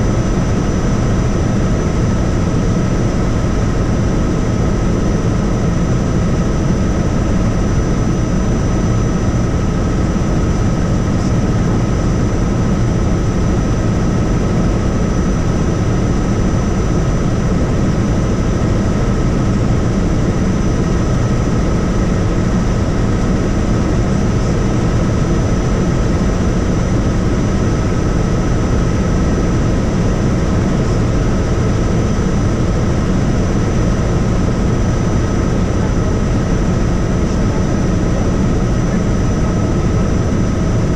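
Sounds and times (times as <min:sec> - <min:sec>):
helicopter rotor and engine rumble: 0:00.0 - 0:40.9.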